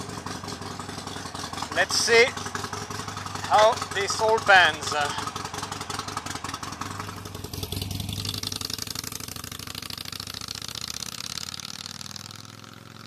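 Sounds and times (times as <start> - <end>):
motorcycle engine pulling away: 0.0 - 13.0.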